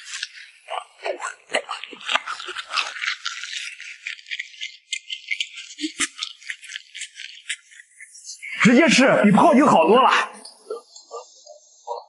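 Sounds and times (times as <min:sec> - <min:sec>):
crunchy chewing: 0:00.0 - 0:08.5, 0:10.4 - 0:12.0.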